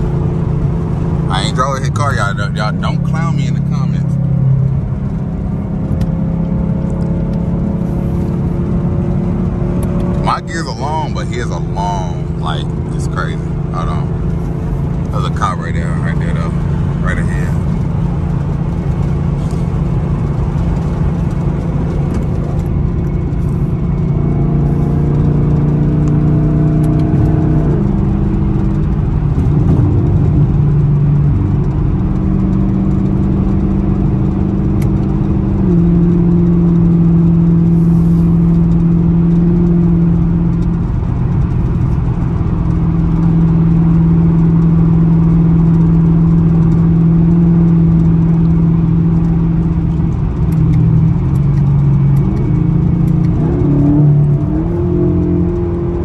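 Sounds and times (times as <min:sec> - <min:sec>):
car engine exhaust drone: 0:00.0 - 0:56.0
engine revving: 0:00.0 - 0:56.0.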